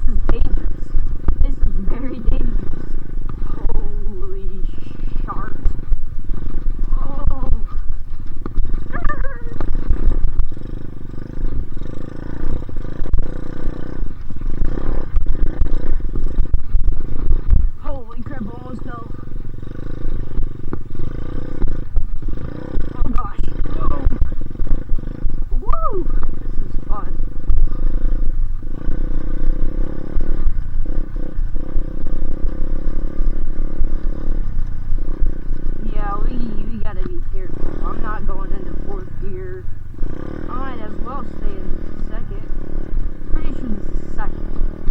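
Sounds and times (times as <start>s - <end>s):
dirt bike engine under throttle: 0.0s - 44.9s.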